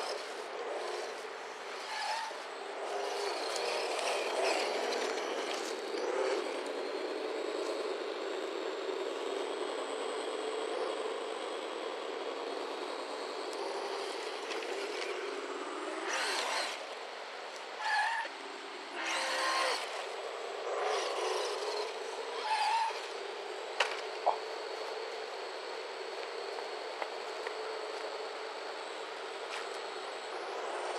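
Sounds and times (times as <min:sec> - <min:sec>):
simulated engine from small speaker: 0:00.0 - 0:30.9.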